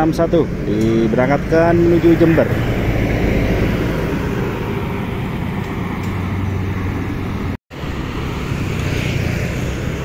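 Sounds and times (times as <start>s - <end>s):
passing traffic: 0.0s - 10.0s.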